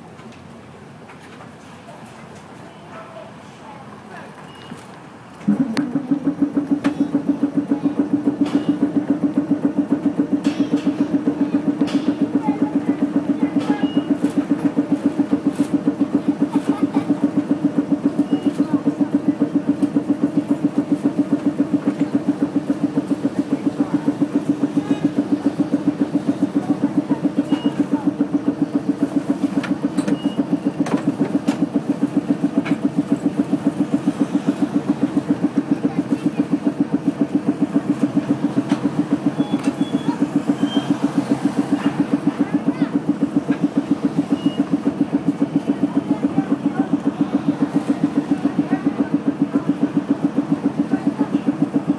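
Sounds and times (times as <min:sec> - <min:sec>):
streetcar pulsing low hum: 0:00.0 - 0:51.9.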